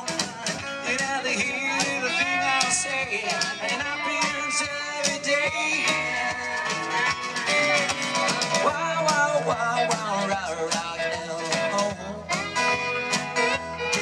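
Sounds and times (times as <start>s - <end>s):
guitar: 0.0s - 14.0s
live country band playing: 0.0s - 14.0s.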